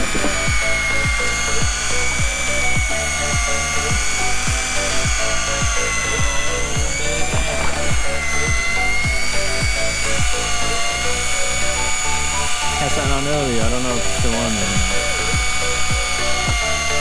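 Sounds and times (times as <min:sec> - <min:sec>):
background music with steady beat: 0:00.0 - 0:17.0
fishing reel motor whining: 0:00.0 - 0:17.0.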